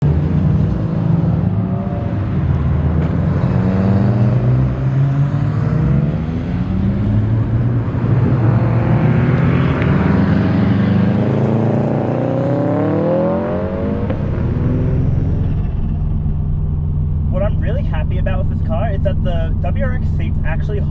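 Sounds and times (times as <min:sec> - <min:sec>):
turbocharged car engine revving: 0:00.1 - 0:20.9.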